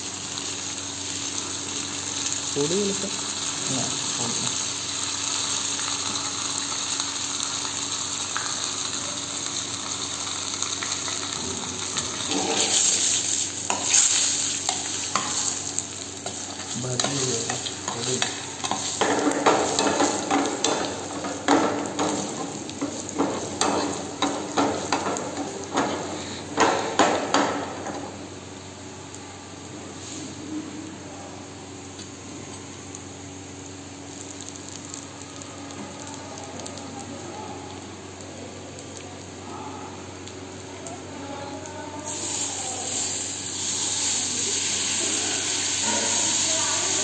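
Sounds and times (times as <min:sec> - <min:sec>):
onions sizzling in oil: 0:00.0 - 0:47.0.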